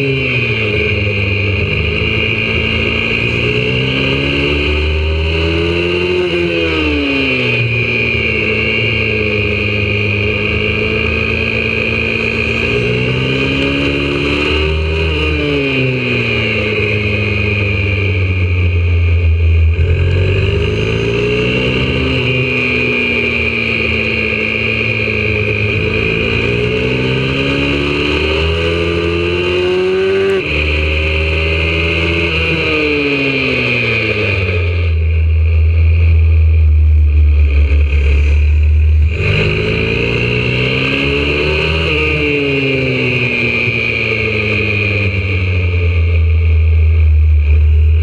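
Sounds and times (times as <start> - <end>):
pit bike engine at racing speed: 0.0 - 48.0.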